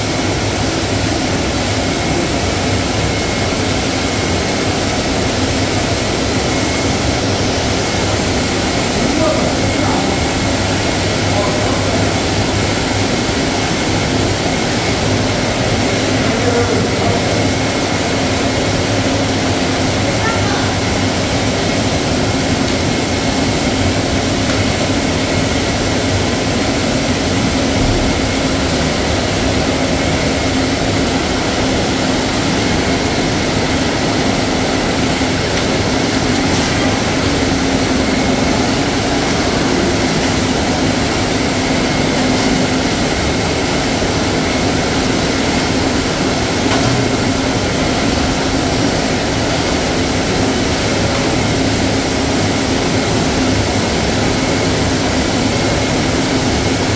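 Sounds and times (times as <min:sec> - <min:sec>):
machinery droning: 0:00.0 - 0:56.9.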